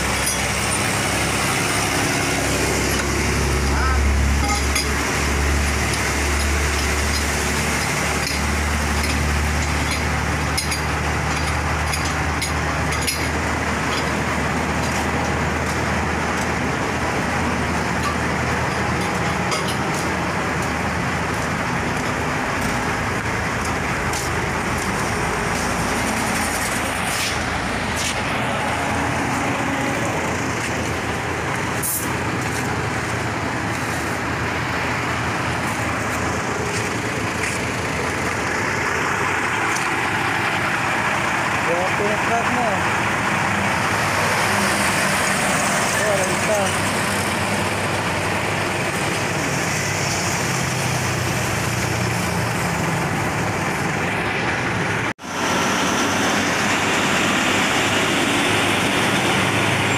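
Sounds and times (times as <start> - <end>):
road noise: 0.0 - 59.9
truck engine: 0.0 - 59.9.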